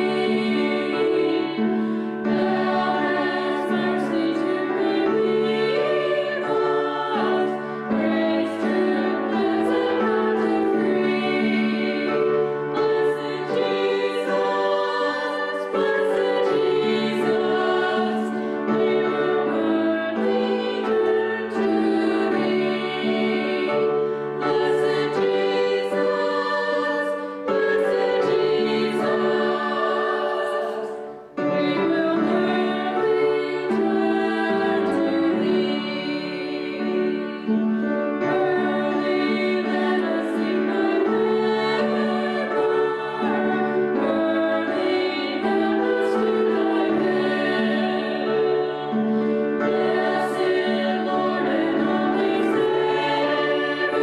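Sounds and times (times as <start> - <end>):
piano accompaniment: 0.0 - 54.0
women singing a hymn: 0.0 - 54.0.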